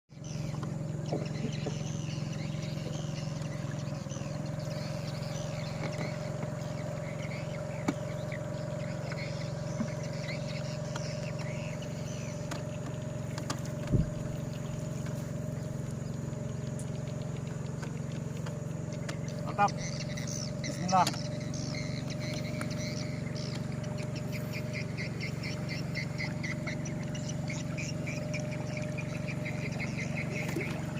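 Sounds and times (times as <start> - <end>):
birds chirping: 0.1 - 30.9
motorboat engine running: 0.1 - 30.9.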